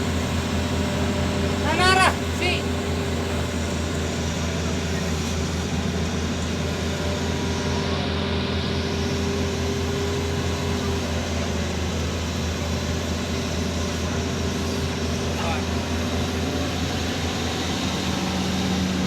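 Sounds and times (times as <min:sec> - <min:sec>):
excavator diesel engine humming: 0:00.0 - 0:19.0.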